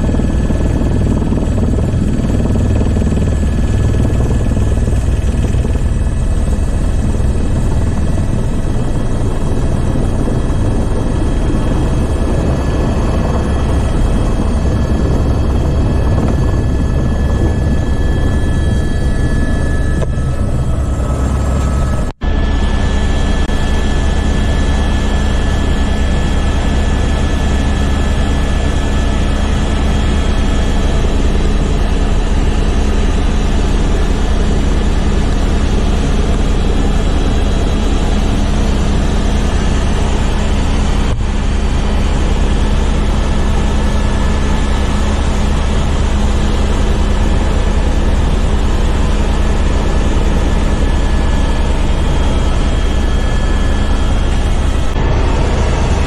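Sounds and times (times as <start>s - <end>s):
helicopter rotor drone: 0.0s - 56.0s
high whine: 0.0s - 56.0s.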